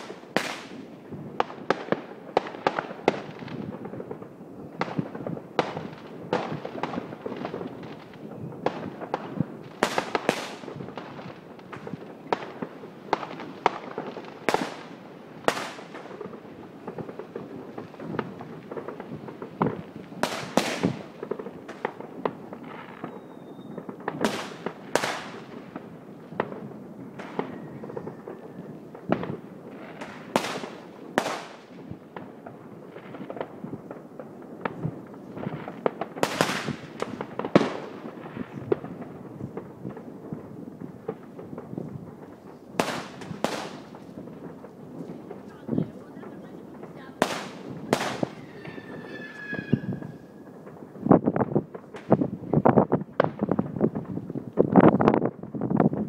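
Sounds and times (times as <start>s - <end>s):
fireworks crackling and popping: 0.0s - 56.0s
loud ringing firework crack: 0.0s - 56.0s.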